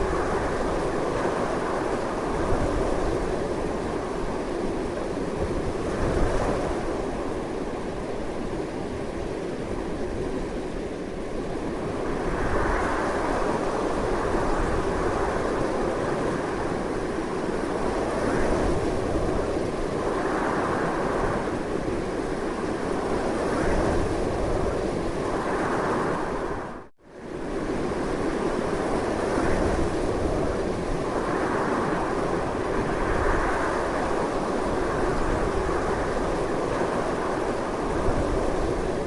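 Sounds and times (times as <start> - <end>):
strong gusting wind: 0.0 - 39.0.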